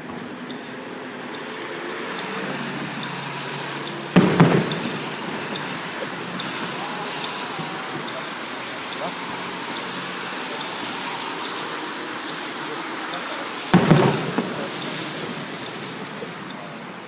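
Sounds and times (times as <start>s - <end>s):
firework bangs: 0.0s - 17.0s
steady hiss: 0.0s - 17.0s.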